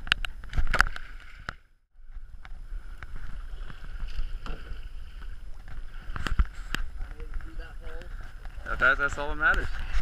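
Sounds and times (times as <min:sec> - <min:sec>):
water sloshing against camera: 0:00.0 - 0:10.0.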